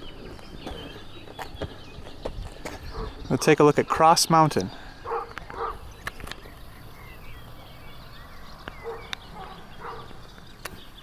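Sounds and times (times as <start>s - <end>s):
distant short calls and chirps: 0.0s - 11.0s
steady outdoor background: 0.0s - 11.0s.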